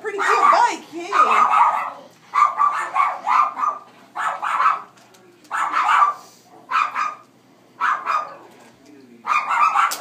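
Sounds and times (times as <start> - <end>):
dog barking: 0.1 - 8.5, 9.2 - 10.0.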